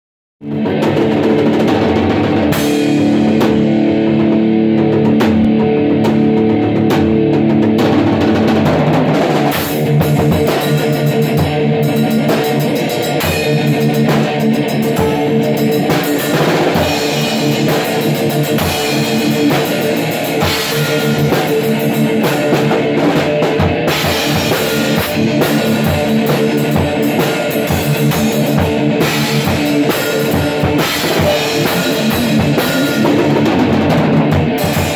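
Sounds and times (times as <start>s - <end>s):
drum kit beat: 0.4s - 34.9s
electric guitar playing rock: 0.4s - 34.9s.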